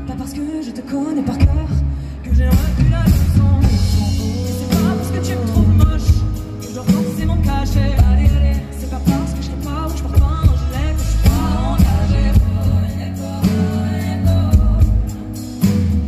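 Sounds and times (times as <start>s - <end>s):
woman singing: 0.0s - 15.3s
band playing pop-rock: 0.0s - 16.0s.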